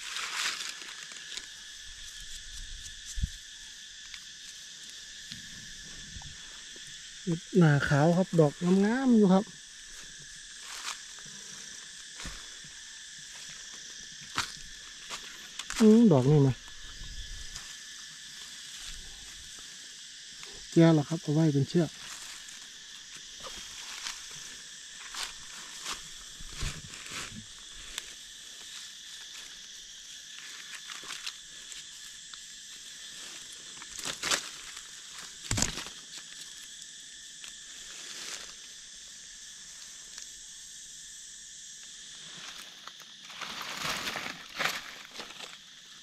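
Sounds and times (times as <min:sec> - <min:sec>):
crunches and rustles on forest floor: 0:00.0 - 0:40.9, 0:41.8 - 0:46.0
insect chorus: 0:00.0 - 0:46.0.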